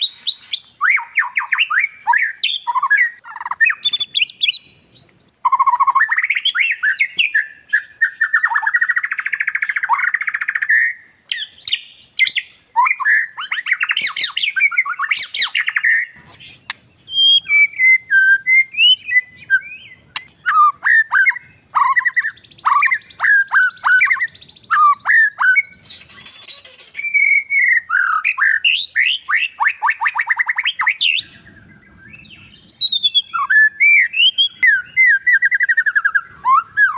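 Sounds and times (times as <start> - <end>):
bird singing whistled phrases: 0.0 - 4.8, 5.4 - 36.9.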